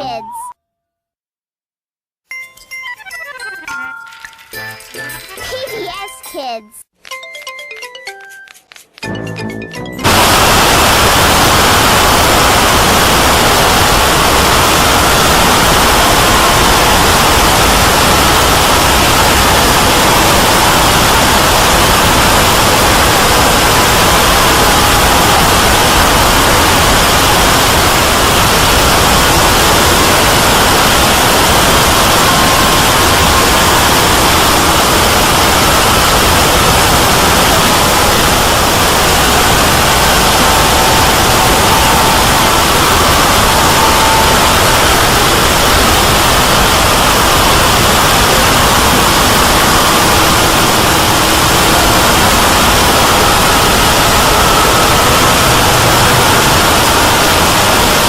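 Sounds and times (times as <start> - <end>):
white noise hiss: 10.0 - 58.0.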